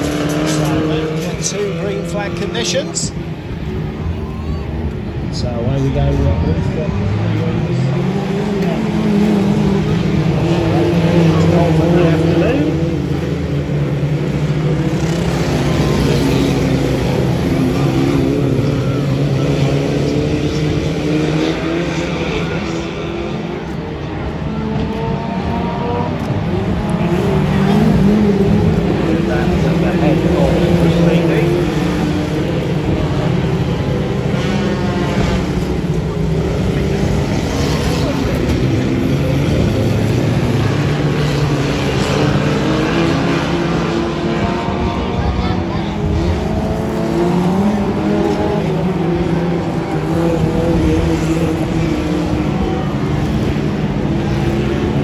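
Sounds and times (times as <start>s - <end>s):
car engines revving: 0.0s - 55.0s
voices: 0.0s - 55.0s.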